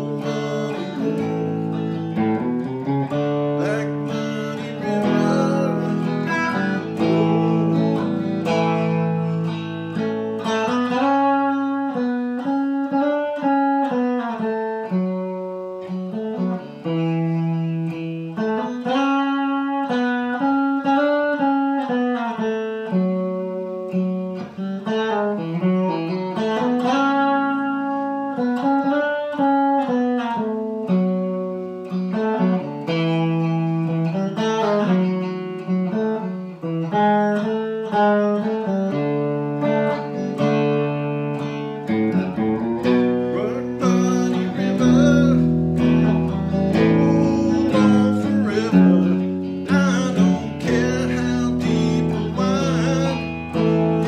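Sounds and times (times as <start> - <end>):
electric guitar chords: 0.0 - 54.0.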